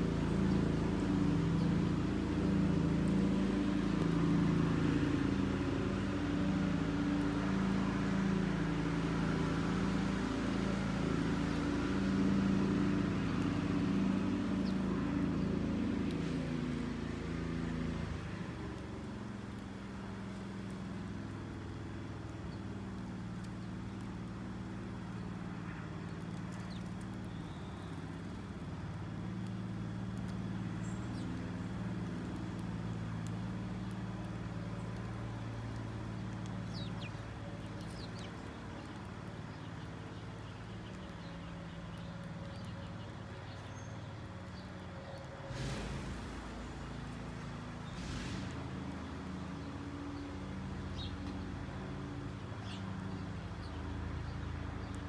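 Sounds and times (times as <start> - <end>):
low motor hum: 0.0 - 55.0.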